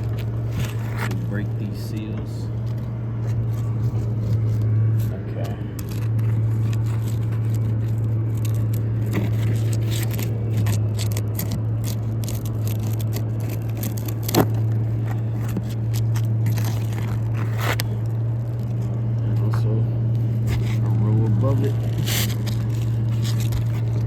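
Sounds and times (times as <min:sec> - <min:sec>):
pry bar scraping under shingles: 0:00.0 - 0:19.6, 0:20.2 - 0:24.0
shingles crackling and crunching: 0:00.0 - 0:24.0
steady low hum: 0:00.0 - 0:24.0.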